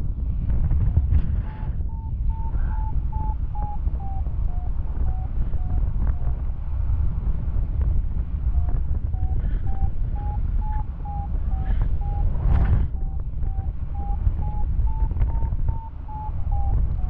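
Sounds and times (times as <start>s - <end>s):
wind rushing over microphone: 0.0s - 17.0s
variometer beeping: 0.9s - 6.6s, 8.4s - 17.0s.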